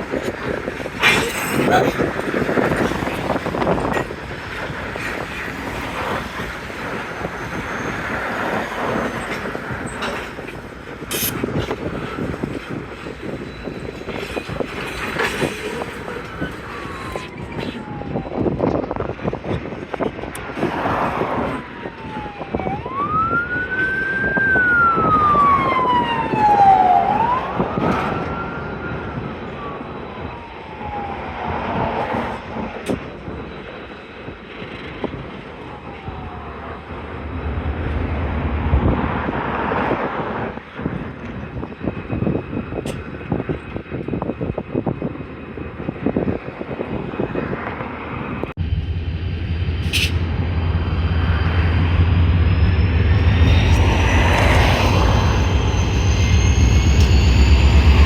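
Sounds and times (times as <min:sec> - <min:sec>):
emergency vehicle siren wailing: 0:00.2 - 0:10.4, 0:11.5 - 0:33.4, 0:35.0 - 0:48.6, 0:49.6 - 0:58.0.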